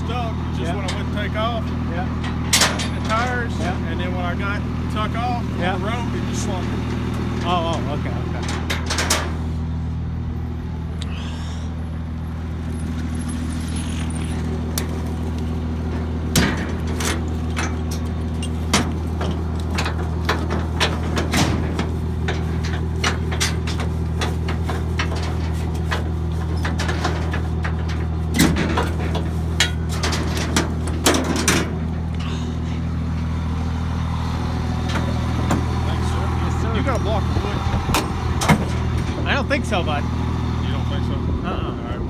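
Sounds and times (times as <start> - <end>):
vehicle engine idling: 0.0 - 42.0
sharp metallic clanks and knocks: 0.6 - 9.6, 12.8 - 39.4.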